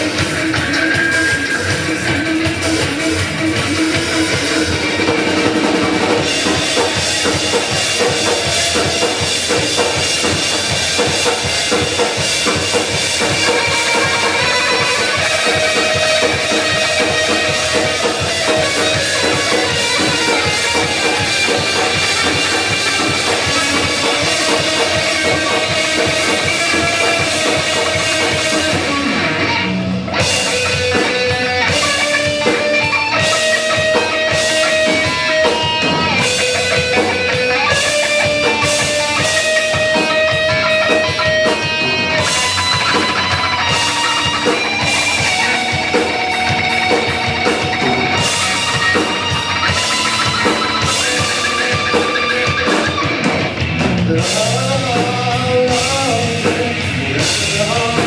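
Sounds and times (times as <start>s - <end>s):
distorted electric guitar melody: 0.0s - 58.0s
drum kit beat: 0.0s - 58.0s.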